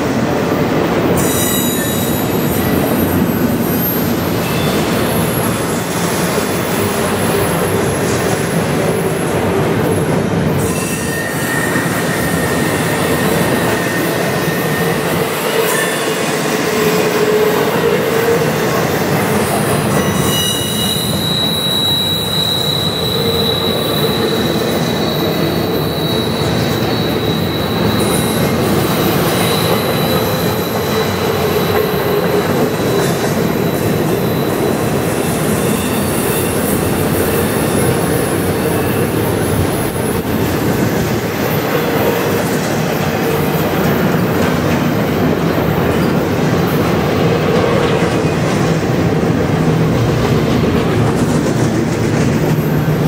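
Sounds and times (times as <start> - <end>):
freight train wheels rumbling on rail: 0.0 - 53.0
high wheel squeal: 1.2 - 48.5.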